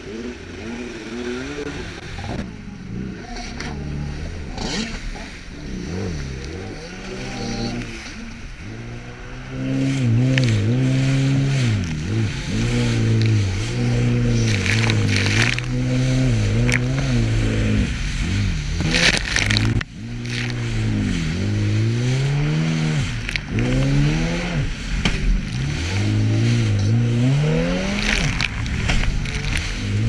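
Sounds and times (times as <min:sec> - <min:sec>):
watercraft engine revving: 0:00.0 - 0:30.0
hull splashing on water: 0:04.2 - 0:30.0.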